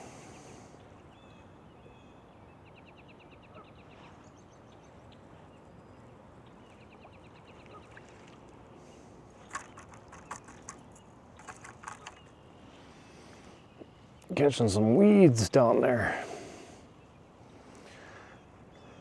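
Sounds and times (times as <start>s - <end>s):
low outdoor hiss: 0.0s - 19.0s.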